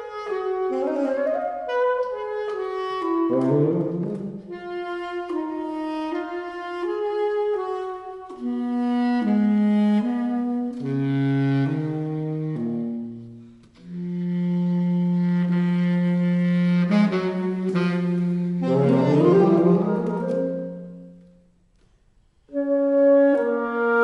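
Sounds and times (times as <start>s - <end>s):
saxophone trio playing chamber music: 0.0s - 21.6s, 22.4s - 24.0s.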